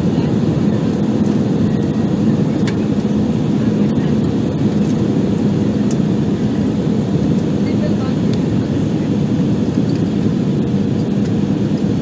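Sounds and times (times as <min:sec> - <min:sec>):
jet cabin engine roar: 0:00.0 - 0:12.0.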